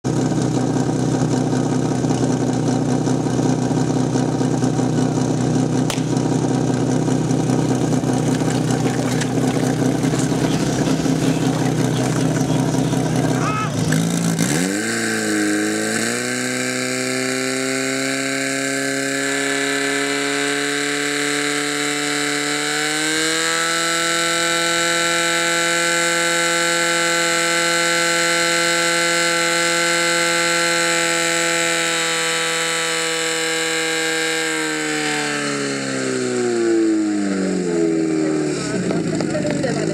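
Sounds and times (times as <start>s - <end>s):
pump engine running hard: 0.1s - 39.9s.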